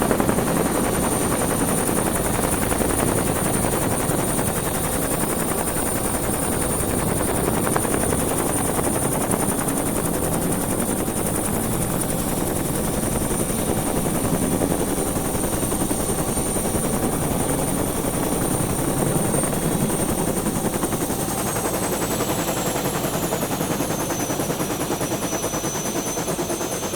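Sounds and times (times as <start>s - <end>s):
helicopter rotor beating: 0.0s - 26.9s.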